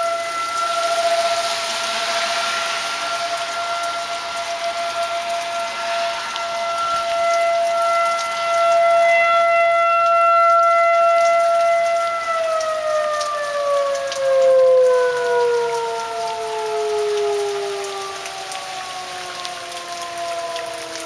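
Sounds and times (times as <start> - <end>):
rain pattering: 0.0 - 21.0
warning siren winding down: 0.0 - 21.0.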